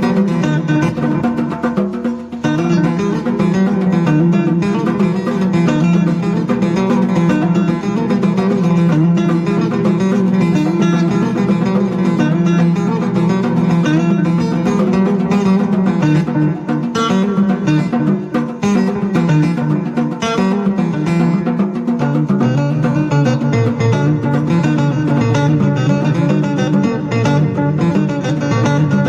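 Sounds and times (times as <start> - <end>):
plucked string instrument music: 0.0 - 29.0.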